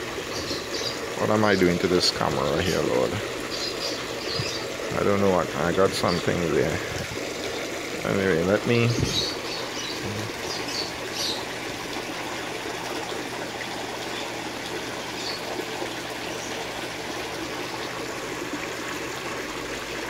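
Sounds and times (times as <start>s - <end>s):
water trickling into pond: 0.0s - 20.0s.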